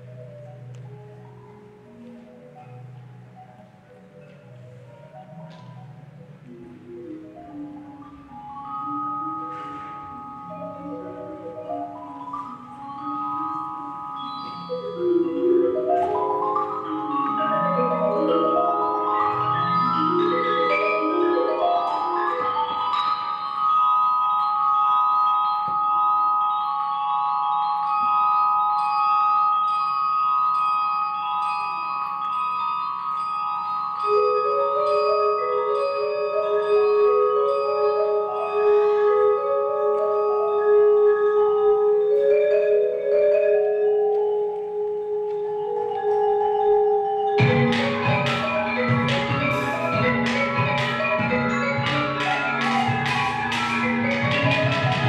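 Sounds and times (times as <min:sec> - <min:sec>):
marimba percussion ensemble: 0:00.0 - 0:55.0.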